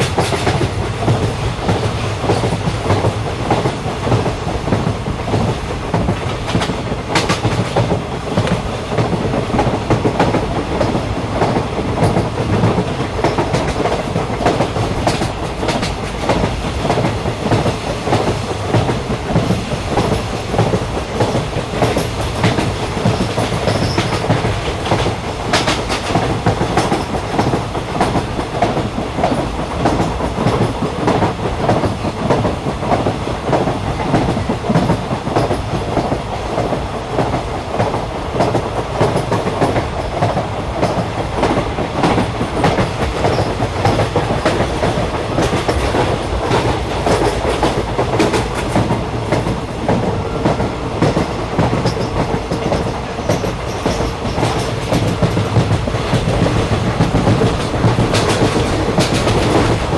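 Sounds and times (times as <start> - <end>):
train rumbling: 0.0 - 59.9
wheels clattering on rails: 0.0 - 59.9.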